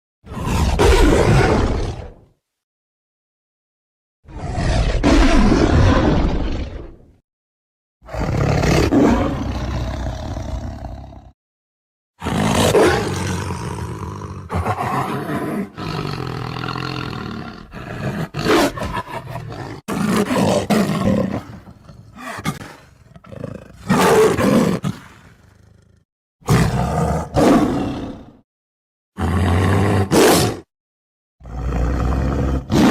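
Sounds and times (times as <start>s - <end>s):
lion roaring and grunting: 0.3s - 2.2s, 4.3s - 7.1s, 8.0s - 11.3s, 12.2s - 28.4s, 29.2s - 30.7s, 31.4s - 32.9s.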